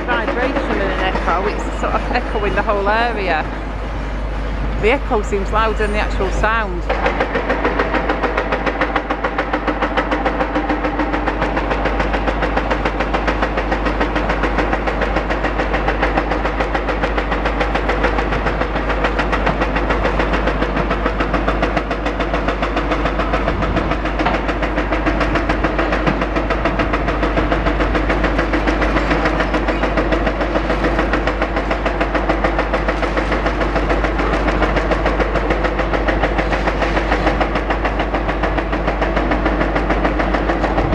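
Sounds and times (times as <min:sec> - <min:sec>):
hydraulic breaker hammering concrete: 0:00.0 - 0:40.9.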